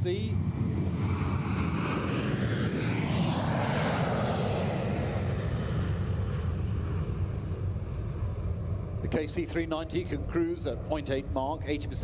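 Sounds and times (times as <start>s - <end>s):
jet engine whine: 0.0s - 12.0s
jet engines roaring at takeoff: 0.0s - 12.0s.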